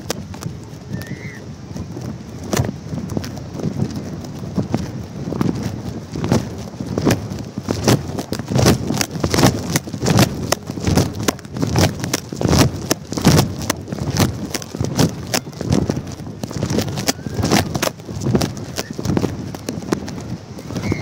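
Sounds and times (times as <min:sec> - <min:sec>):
wind buffeting microphone: 0:00.0 - 0:21.0
knocking and flapping: 0:01.8 - 0:21.0.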